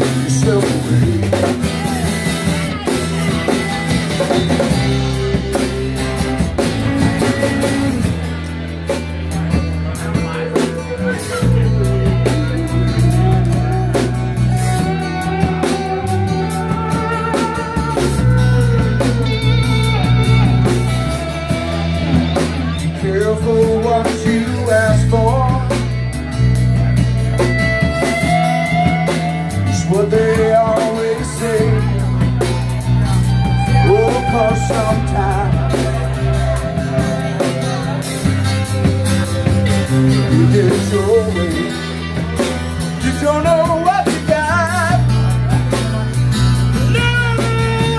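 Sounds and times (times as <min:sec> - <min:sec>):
person singing: 0:00.0 - 0:08.1, 0:10.0 - 0:47.9
bass guitar: 0:00.0 - 0:47.9
drum kit: 0:00.0 - 0:47.9
electric guitar: 0:00.0 - 0:47.9.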